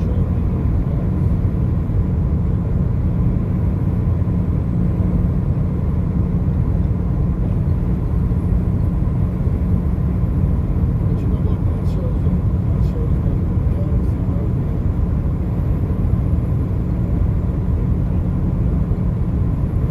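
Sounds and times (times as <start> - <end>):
car engine and tyre rumble: 0.0 - 19.9.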